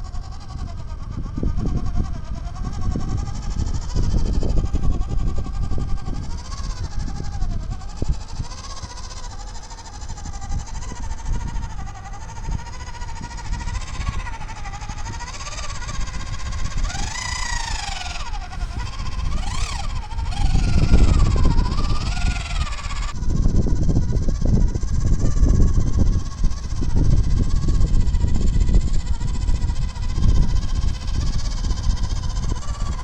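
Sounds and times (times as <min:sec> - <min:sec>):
electric motor and gearbox whining: 0:00.0 - 0:33.0.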